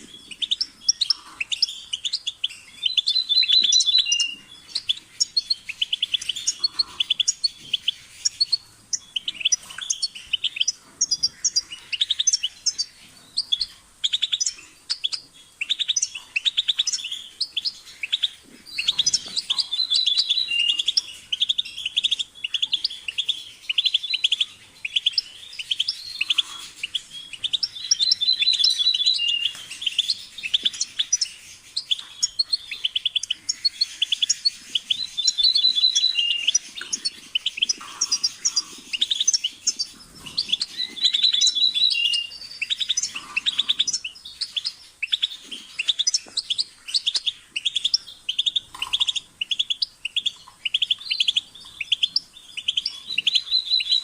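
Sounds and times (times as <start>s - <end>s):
goldfinch singing: 0.0s - 54.0s.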